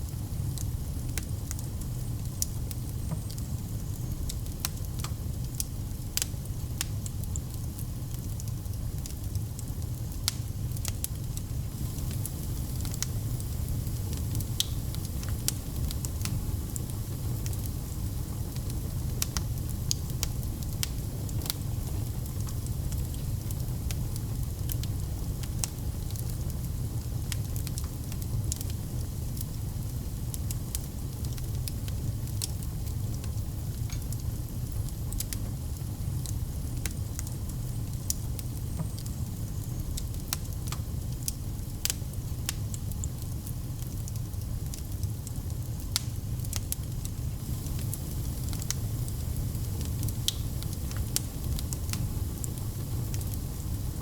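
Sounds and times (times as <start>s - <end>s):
fire crackling and popping: 0.0s - 54.0s
low fire rumble: 0.0s - 54.0s.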